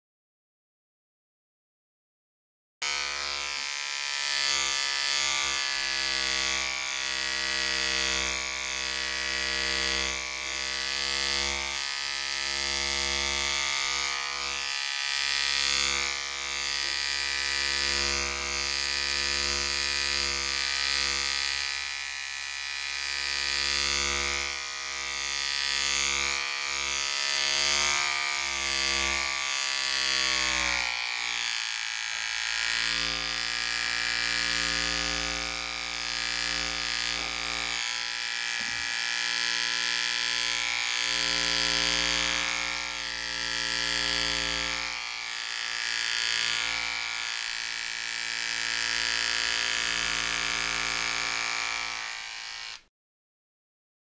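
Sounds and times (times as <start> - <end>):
electric hair clipper buzzing: 2.8 - 52.9.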